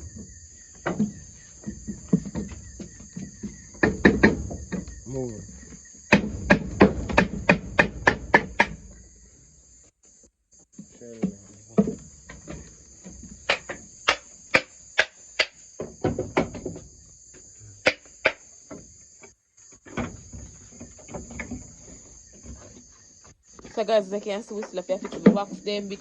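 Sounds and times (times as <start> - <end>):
crickets chirring: 0.0 - 26.0.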